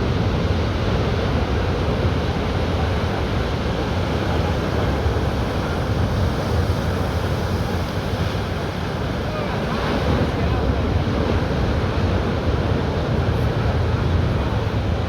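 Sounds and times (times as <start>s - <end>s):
waves breaking: 0.0s - 15.0s
wind rumbling on microphone: 0.0s - 15.0s.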